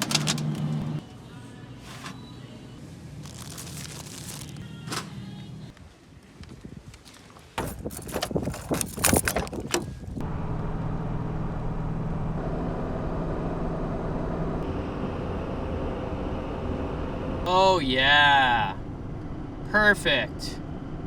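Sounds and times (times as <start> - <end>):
pickup engine and road noise: 0.0 - 21.0.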